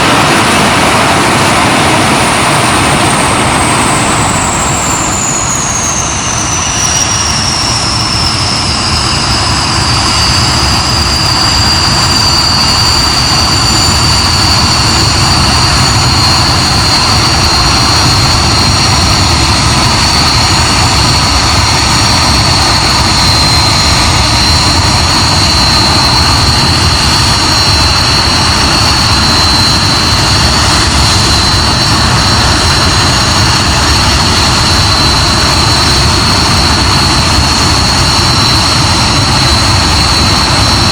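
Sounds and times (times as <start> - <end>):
jet engine roaring with high whine: 0.0 - 40.9.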